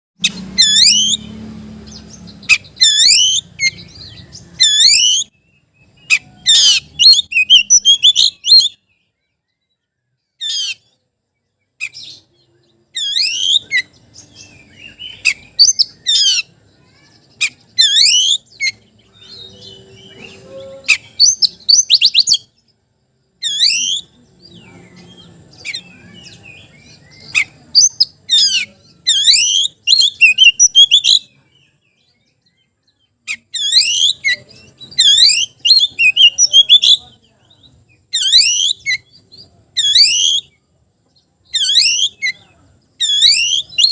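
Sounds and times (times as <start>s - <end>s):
bird whistling song: 0.2s - 22.8s, 23.4s - 43.9s.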